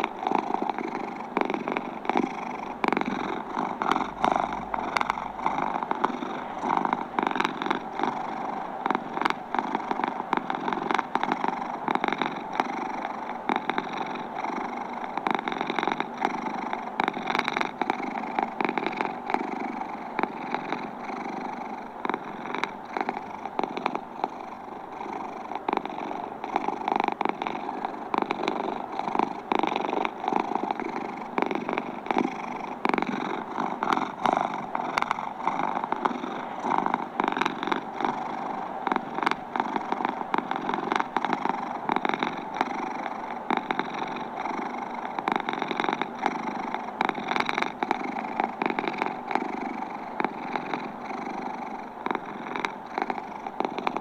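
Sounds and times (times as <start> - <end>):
cat purring with clicks: 0.0 - 54.0.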